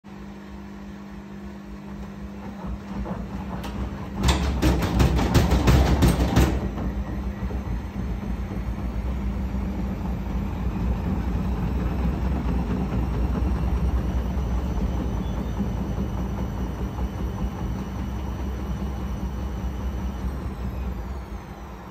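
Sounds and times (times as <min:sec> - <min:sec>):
washing machine spinning rumble: 0:00.1 - 0:21.9
washing machine drum knocking: 0:02.4 - 0:20.4.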